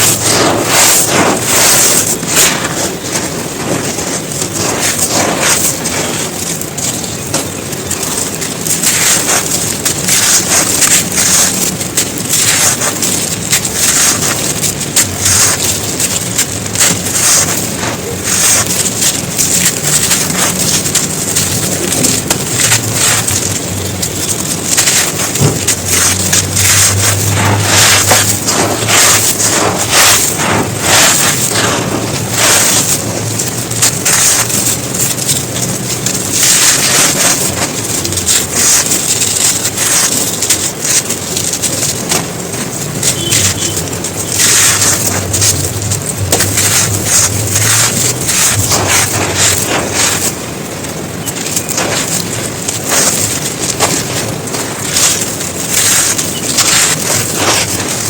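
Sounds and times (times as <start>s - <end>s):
dry material crunching: 0.0s - 58.0s.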